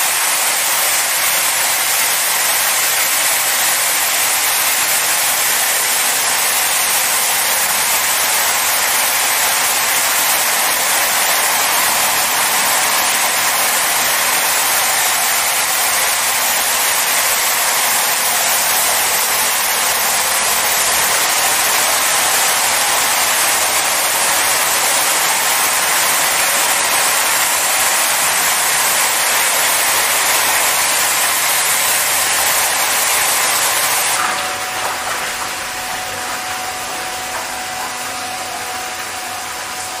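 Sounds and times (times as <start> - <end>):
water jets hissing on a car: 0.0 - 40.0.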